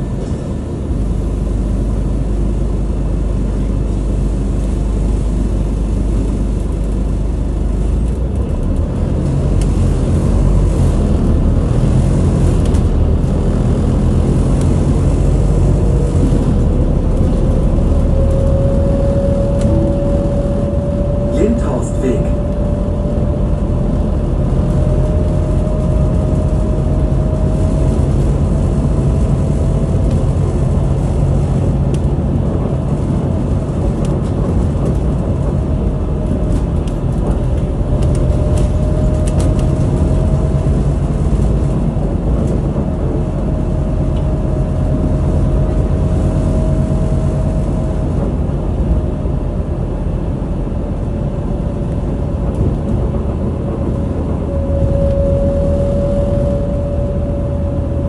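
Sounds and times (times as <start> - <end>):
thin whine: 0.0 - 50.1, 50.8 - 58.0
bus engine and road rumble: 0.0 - 58.0.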